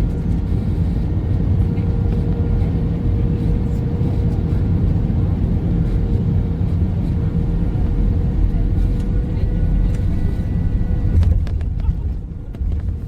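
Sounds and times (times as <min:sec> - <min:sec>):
faint constant hum: 0:00.0 - 0:13.0
low traffic rumble: 0:00.0 - 0:13.0.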